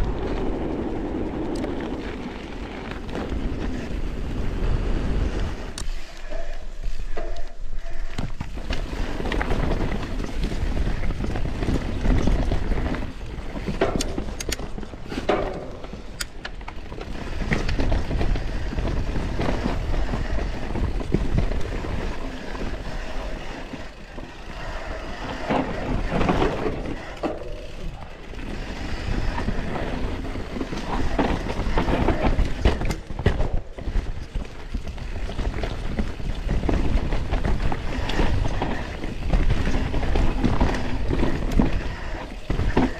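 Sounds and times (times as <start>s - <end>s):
bike tyres rolling over dirt and rocks: 0.0s - 42.9s
wind rumbling on microphone: 0.0s - 42.9s.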